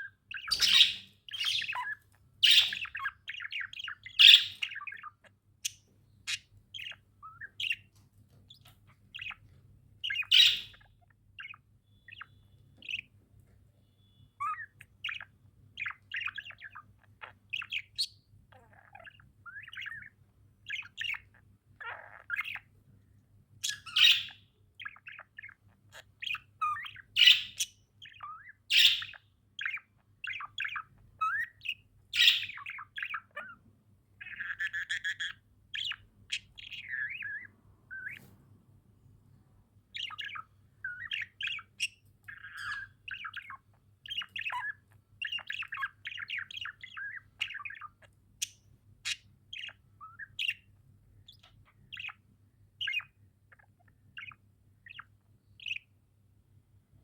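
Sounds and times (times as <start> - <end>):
budgerigars chirping and chattering: 0.0 - 22.8, 23.6 - 38.4, 39.8 - 56.0
faint steady hum: 0.0 - 57.0.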